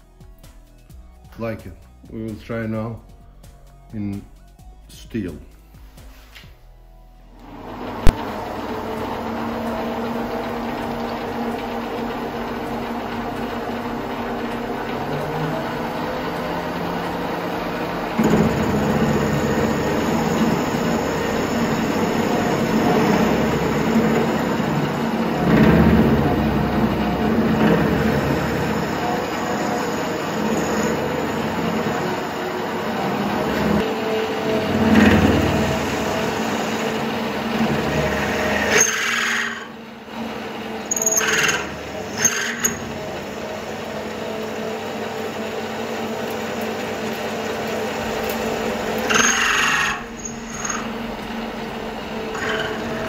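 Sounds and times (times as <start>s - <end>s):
harsh lathe bursts: 7.4s - 53.0s
metal lathe humming: 7.4s - 53.0s.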